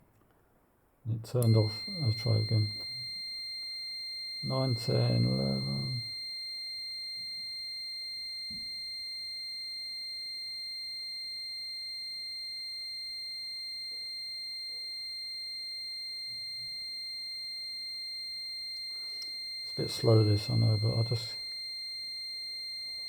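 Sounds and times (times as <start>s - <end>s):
high-pitched buzzer tone: 1.4s - 23.0s.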